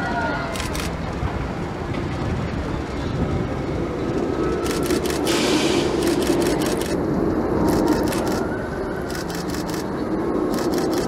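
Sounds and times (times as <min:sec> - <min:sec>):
vehicle passing rumble: 0:00.0 - 0:11.0.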